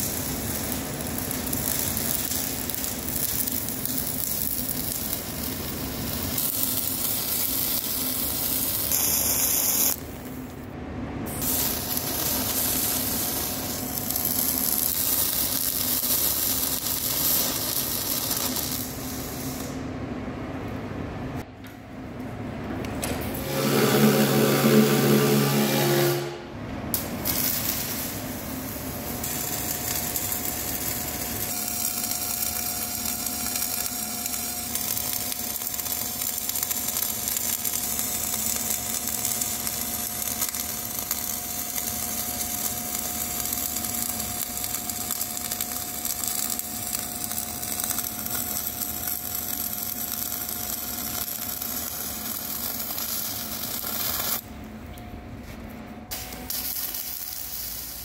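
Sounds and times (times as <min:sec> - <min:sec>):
welding arc burning: 0:00.0 - 0:19.9, 0:23.3 - 0:54.6, 0:56.1 - 0:58.0.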